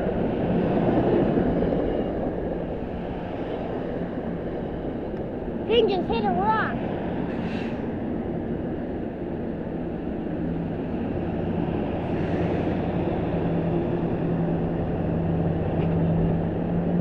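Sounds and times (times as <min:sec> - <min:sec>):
diesel train engine humming: 0:00.0 - 0:17.0.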